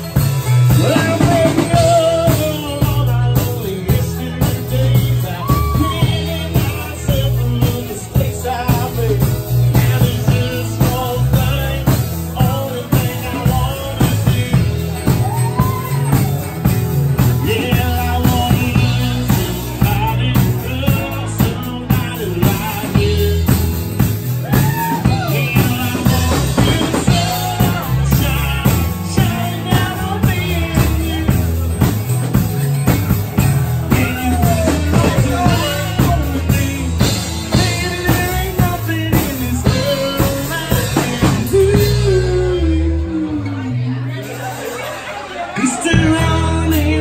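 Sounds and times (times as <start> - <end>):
drum kit beat: 0.0 - 43.2, 45.6 - 47.0
acoustic guitar: 0.0 - 47.0
sliding melody line: 0.2 - 43.1.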